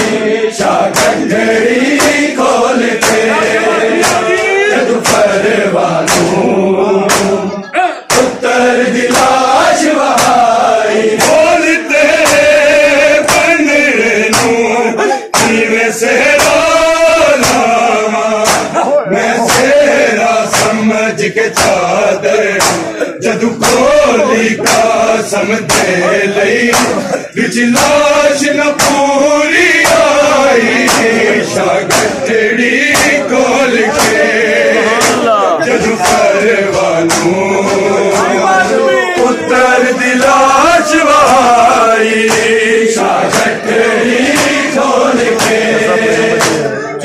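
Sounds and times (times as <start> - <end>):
hands slapping chests: 0.0 - 7.4, 8.1 - 20.9, 21.5 - 46.7
men chanting in chorus: 0.0 - 47.0.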